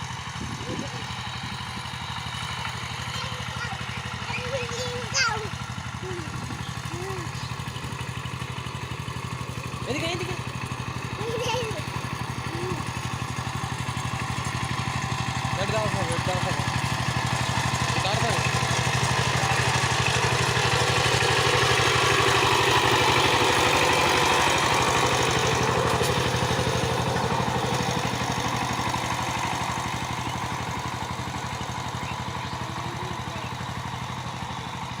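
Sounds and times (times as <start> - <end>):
power tiller engine chugging: 0.0 - 35.0.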